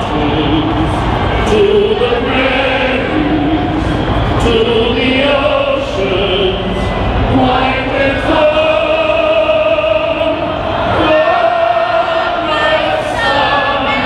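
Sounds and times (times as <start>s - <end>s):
crowd singing in unison: 0.0s - 14.0s.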